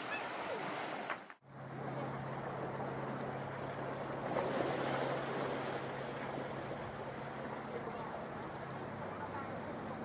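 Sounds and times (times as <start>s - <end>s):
sea surf: 0.0s - 10.0s
wind: 0.0s - 10.0s.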